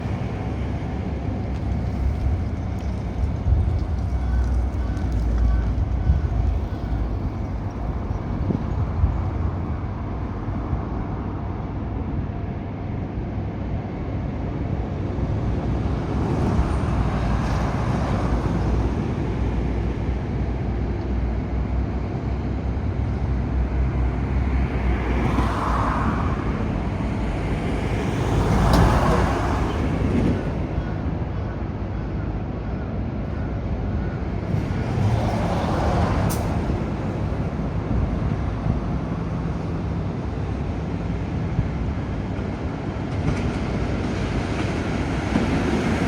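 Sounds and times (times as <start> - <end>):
vehicles passing: 0.0 - 12.2, 15.3 - 46.0
road traffic rumble: 0.0 - 46.0.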